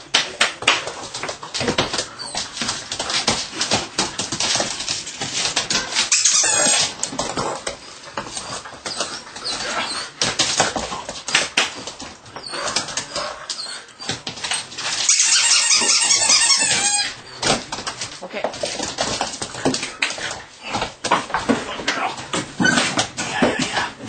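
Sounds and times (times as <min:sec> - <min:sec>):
puppy scuffling on wooden floor: 0:00.1 - 0:24.0.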